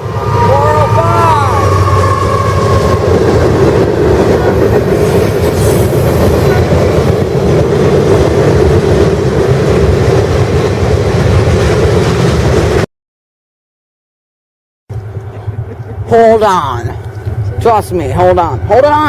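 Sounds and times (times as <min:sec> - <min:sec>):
train rumbling past on rails: 0:00.0 - 0:12.9, 0:14.9 - 0:19.0.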